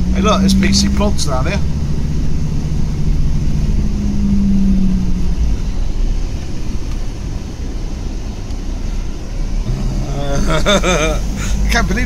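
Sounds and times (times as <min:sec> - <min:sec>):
engine hum: 0:00.0 - 0:12.0
van road rumble: 0:00.0 - 0:12.0.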